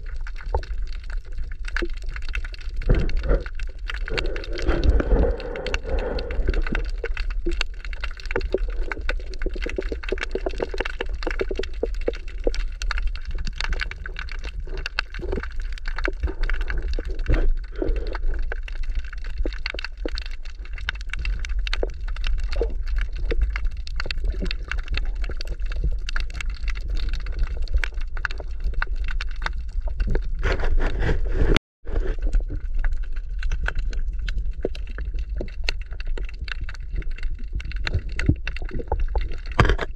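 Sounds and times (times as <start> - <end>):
underwater crackling clicks: 0.0 - 31.0, 32.2 - 39.9
underwater low rumble: 0.0 - 39.9.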